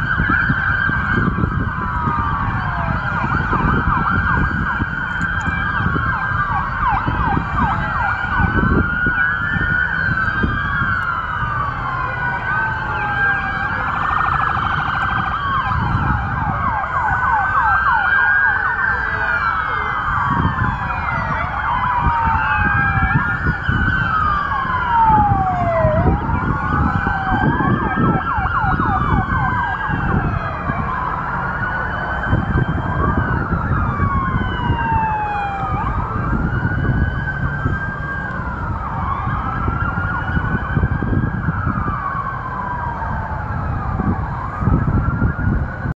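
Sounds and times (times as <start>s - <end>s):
low road traffic rumble: 0.0s - 45.9s
police sirens wailing: 0.0s - 45.9s
siren fast yelp: 0.0s - 45.9s.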